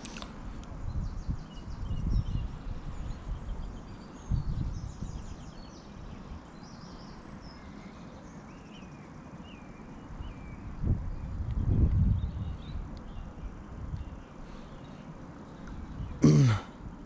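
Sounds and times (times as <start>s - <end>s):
small birds chirping: 0.0s - 16.8s.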